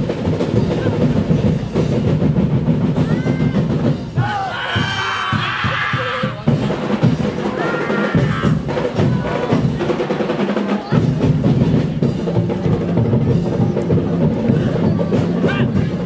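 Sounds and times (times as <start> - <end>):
drum and percussion music: 0.0 - 16.0.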